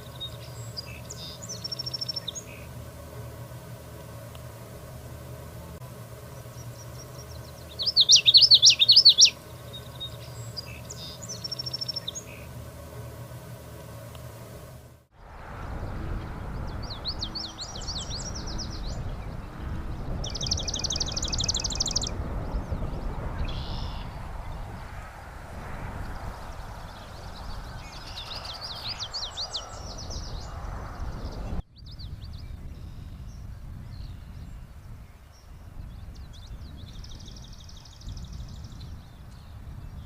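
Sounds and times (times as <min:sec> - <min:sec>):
bird singing rapid phrase: 0:00.0 - 0:02.8, 0:06.3 - 0:12.6, 0:15.8 - 0:25.0, 0:26.0 - 0:40.0
low hum: 0:00.0 - 0:34.9.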